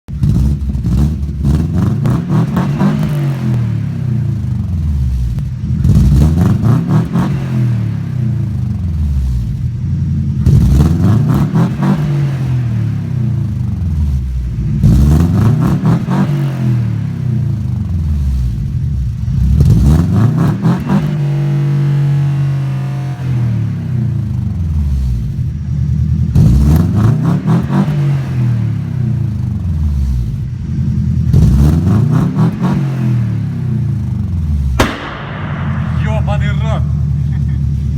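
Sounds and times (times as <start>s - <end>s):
car engine revving: 0.1s - 37.9s.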